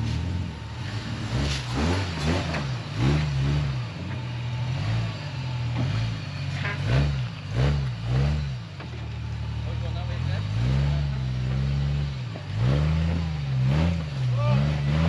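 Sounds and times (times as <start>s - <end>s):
engine revving in short blips: 0.0s - 9.1s, 9.7s - 15.0s.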